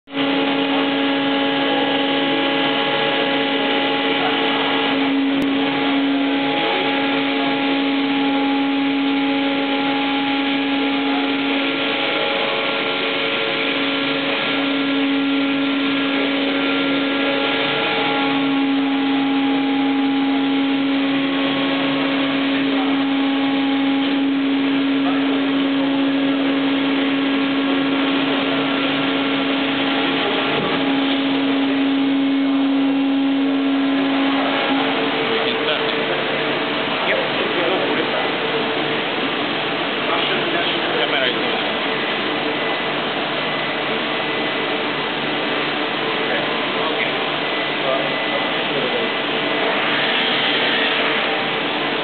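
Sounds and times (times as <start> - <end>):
higher machine whines: 0.1 - 52.0
machine hum with low whine: 0.1 - 52.0.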